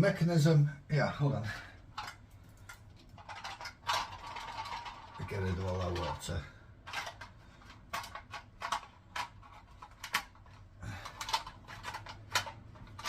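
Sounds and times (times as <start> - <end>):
plastic parts clicking and knocking: 1.8 - 13.0.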